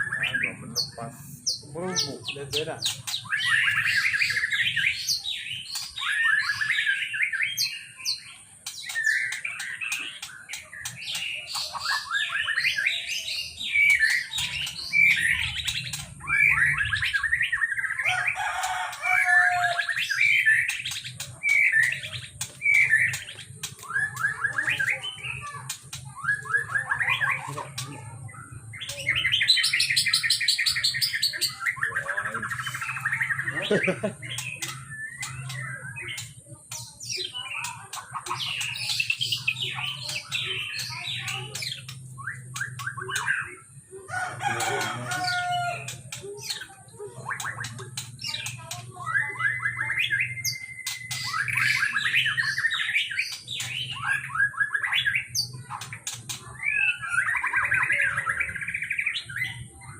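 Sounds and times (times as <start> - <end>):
songbird chirping and warbling: 0.0 - 59.9.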